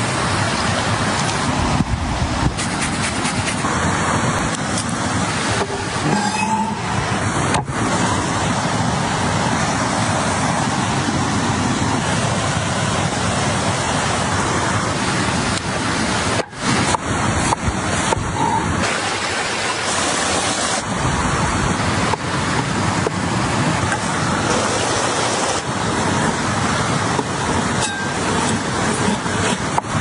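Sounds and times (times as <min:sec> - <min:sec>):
stream rushing over rocks: 0:00.0 - 0:30.0.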